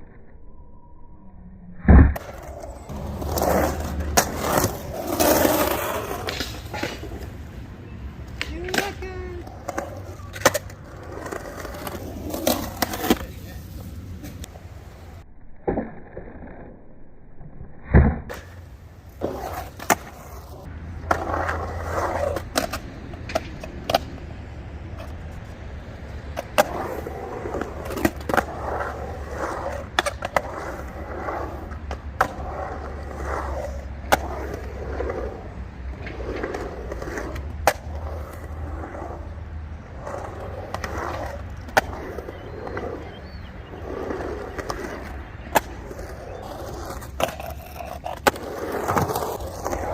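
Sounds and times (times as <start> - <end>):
skateboard wheels rumbling: 2.0 - 17.0, 18.3 - 49.9
skateboard clacks: 2.2 - 7.6, 8.2 - 14.5, 19.2 - 39.3, 40.0 - 49.9.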